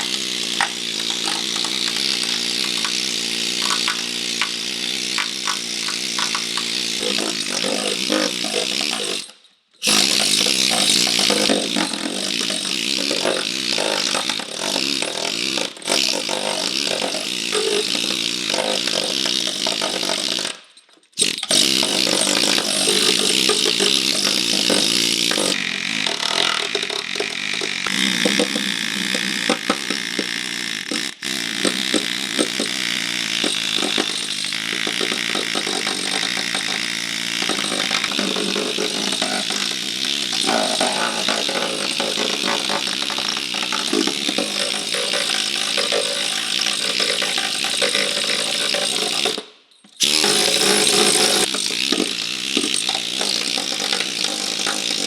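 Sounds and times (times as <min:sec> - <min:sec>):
power tool grinding sheet metal: 0:00.0 - 0:55.0.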